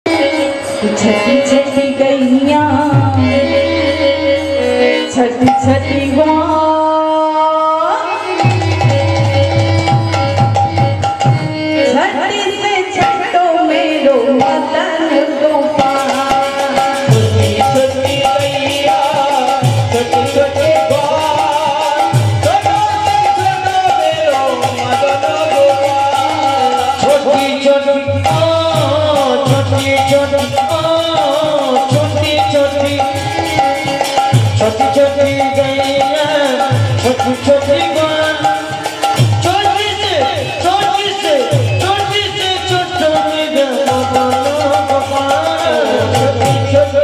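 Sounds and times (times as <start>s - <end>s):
sustained melodic accompaniment: 0.0s - 47.0s
woman singing: 0.1s - 10.4s, 11.3s - 47.0s.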